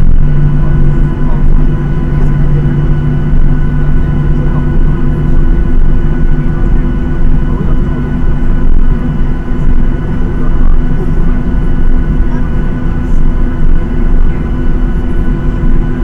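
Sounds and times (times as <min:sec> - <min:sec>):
jet engines droning in cabin: 0:00.0 - 0:16.0.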